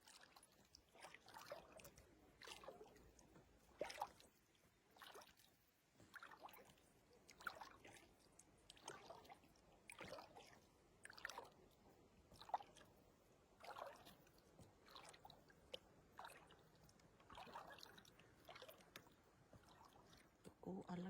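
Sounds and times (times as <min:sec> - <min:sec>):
paddle strokes in water: 0:00.0 - 0:20.8.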